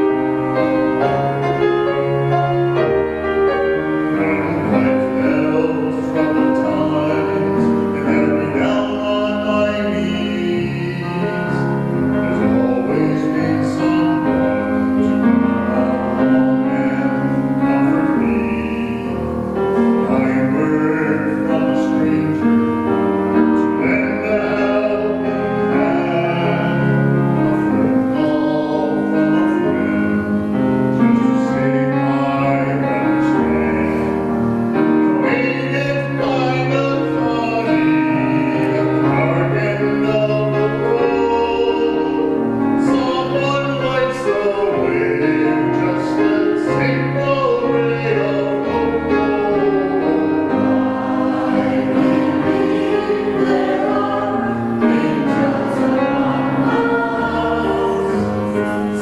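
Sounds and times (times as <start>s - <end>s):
voices singing: 0.0s - 30.3s, 35.0s - 59.0s
piano accompaniment: 0.0s - 59.0s.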